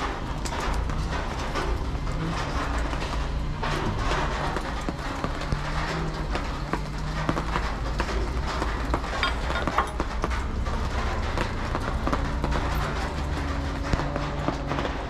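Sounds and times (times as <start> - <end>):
engine running: 0.0 - 15.0
irregular clicks and knocks: 0.0 - 15.0.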